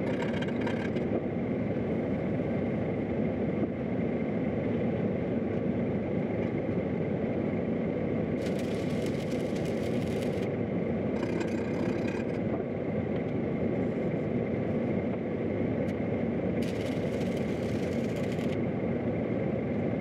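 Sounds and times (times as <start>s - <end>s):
loud mechanical drone: 0.0s - 4.5s, 7.0s - 20.0s.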